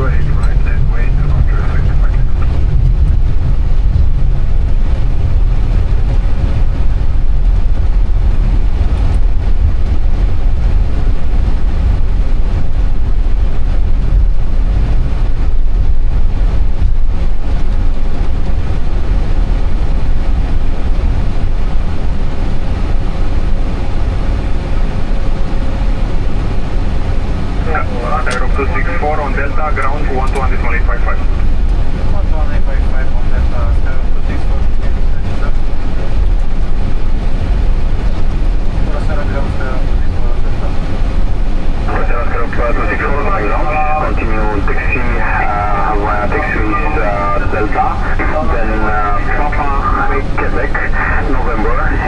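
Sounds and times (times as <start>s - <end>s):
airliner cockpit rumble: 0.0s - 52.0s.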